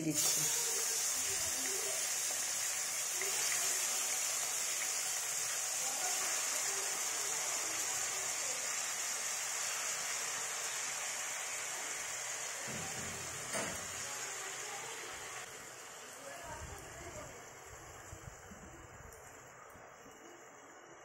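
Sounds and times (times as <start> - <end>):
cheese frying in hot oil: 0.0 - 21.0.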